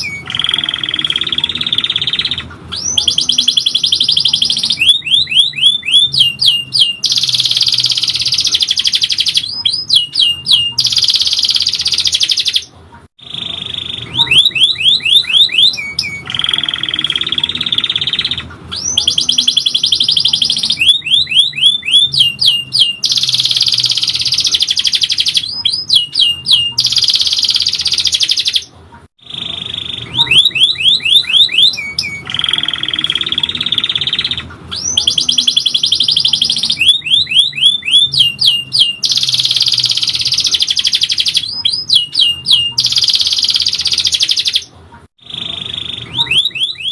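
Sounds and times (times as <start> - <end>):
canary singing: 0.0 - 46.9.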